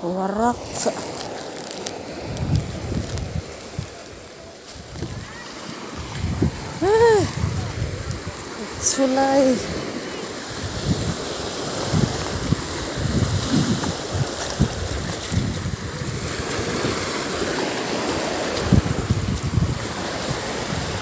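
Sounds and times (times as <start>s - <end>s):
waves washing over concrete: 0.0s - 21.0s
wind buffeting microphone: 0.3s - 21.0s.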